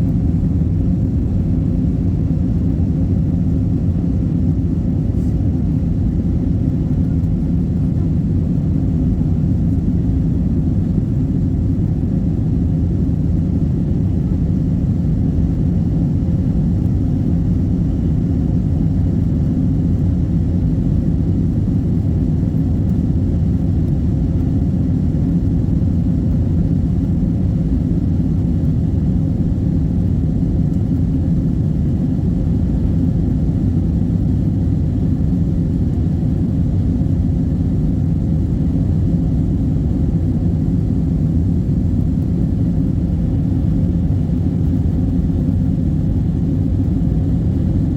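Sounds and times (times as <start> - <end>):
airliner cabin rumble: 0.0 - 47.9.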